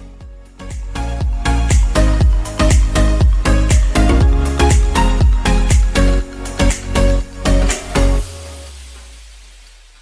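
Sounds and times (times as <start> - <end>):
electronic dance music: 0.0 - 9.6.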